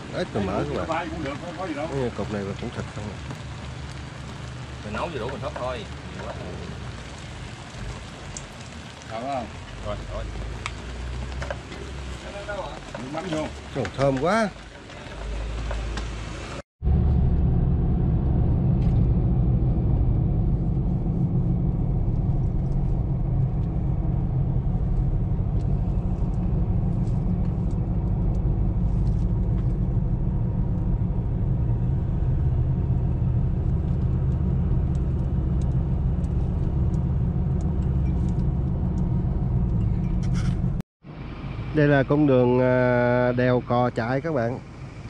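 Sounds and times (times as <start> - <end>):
vehicle engine and road noise: 0.0 - 45.0.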